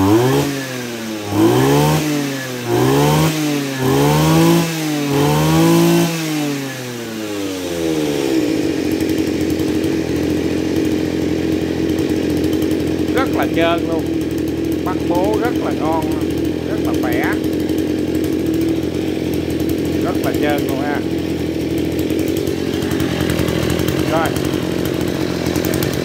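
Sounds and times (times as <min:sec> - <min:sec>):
brush cutter engine revving and idling: 0:00.0 - 0:26.0.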